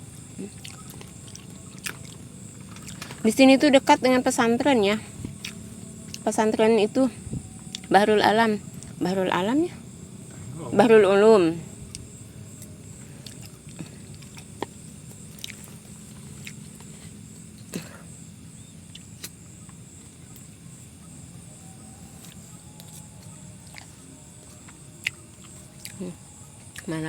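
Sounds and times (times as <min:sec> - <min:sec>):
insect chirring: 0:00.0 - 0:27.0
low steady hum: 0:00.0 - 0:27.0.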